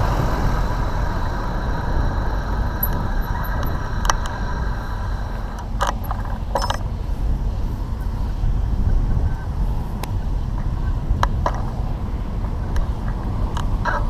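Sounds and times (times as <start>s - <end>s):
traffic road noise and wind: 0.0s - 14.0s.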